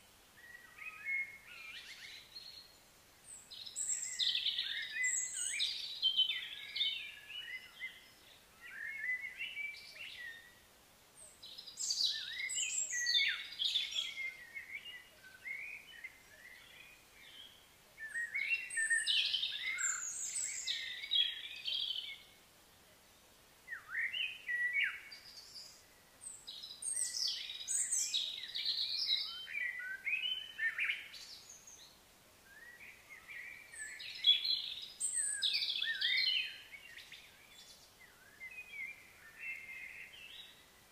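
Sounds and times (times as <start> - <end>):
birds chirping and warbling: 0.4 - 10.6, 11.2 - 22.4, 23.7 - 40.9.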